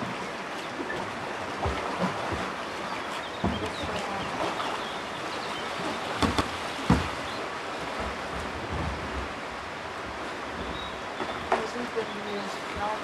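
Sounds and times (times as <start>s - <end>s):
paddle strokes splashing: 0.0s - 13.0s
river water rushing: 0.0s - 13.0s.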